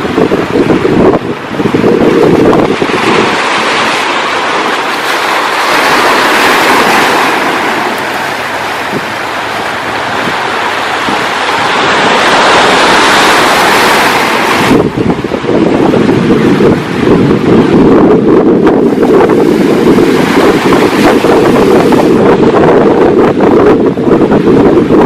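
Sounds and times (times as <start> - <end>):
sea surf washing on shore: 0.0 - 25.0.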